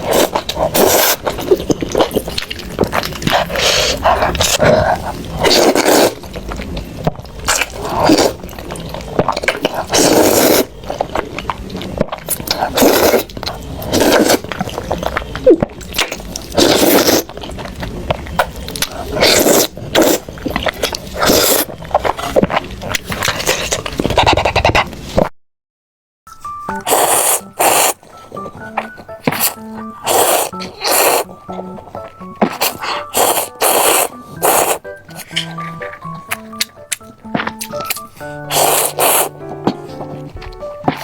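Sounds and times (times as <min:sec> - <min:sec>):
noodle slurping: 0:00.0 - 0:11.3, 0:12.3 - 0:17.8, 0:18.4 - 0:25.0, 0:26.8 - 0:36.6, 0:37.4 - 0:39.4
wet chewing: 0:00.0 - 0:25.2, 0:26.7 - 0:41.0.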